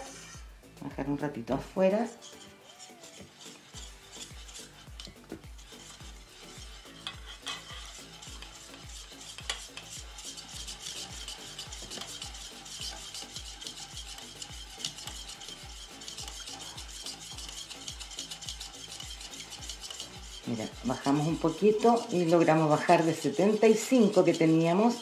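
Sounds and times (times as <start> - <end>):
whisk scraping metal bowl: 0.0 - 25.0.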